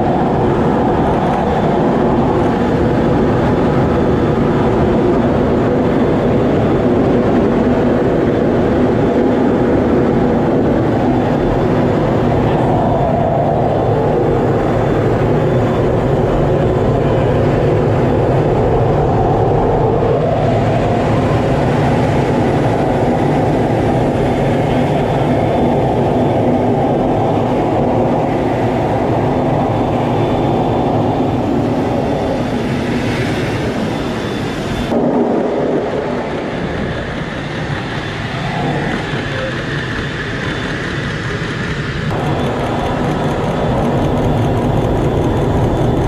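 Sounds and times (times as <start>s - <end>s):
jet engine and airflow rush: 0.0s - 46.0s.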